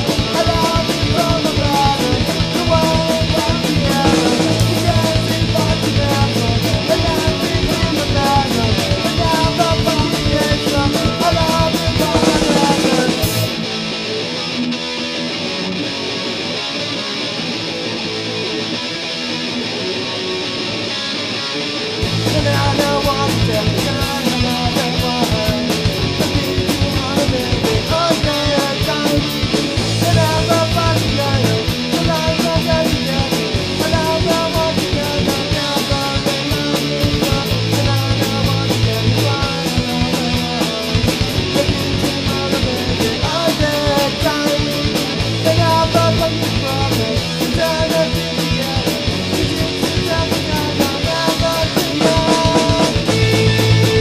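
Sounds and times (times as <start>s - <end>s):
punk rock band playing: 0.0s - 54.0s
strummed electric guitar: 0.0s - 54.0s.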